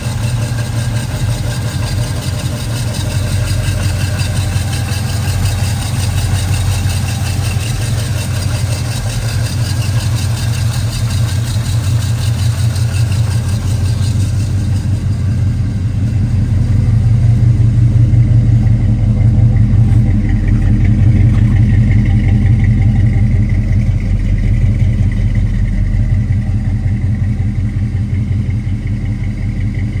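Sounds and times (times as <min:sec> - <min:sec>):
pickup engine running: 0:00.0 - 0:30.0.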